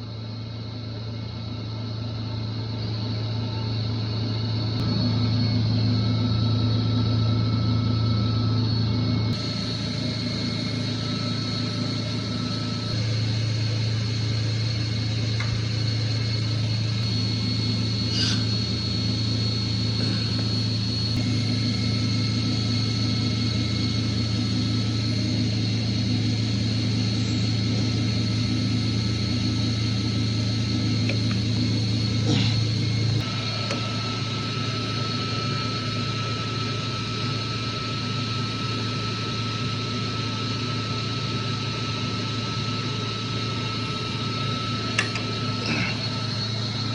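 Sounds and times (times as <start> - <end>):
compressor low hum: 0.0 - 46.9
high-pitched whine: 0.0 - 46.9.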